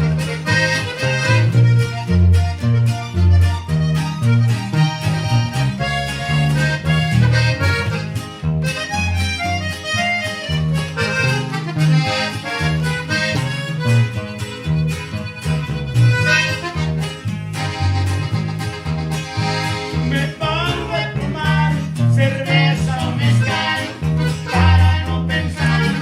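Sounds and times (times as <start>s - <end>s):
accordion melody: 0.0s - 26.0s
bass line: 0.0s - 26.0s.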